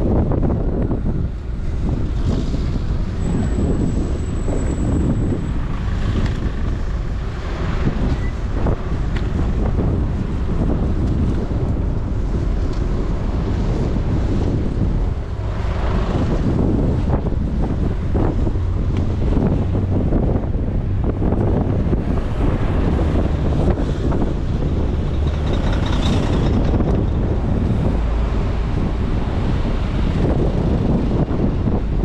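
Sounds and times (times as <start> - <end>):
traffic noise: 0.0 - 32.0
wind buffeting microphone: 0.0 - 32.0.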